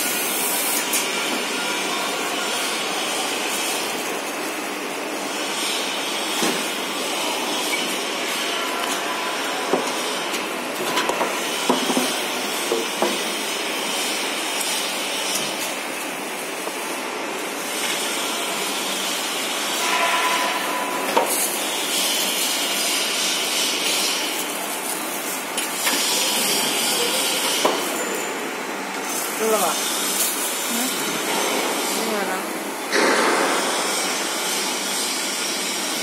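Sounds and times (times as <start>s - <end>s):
packing machine whirring: 0.0s - 36.0s.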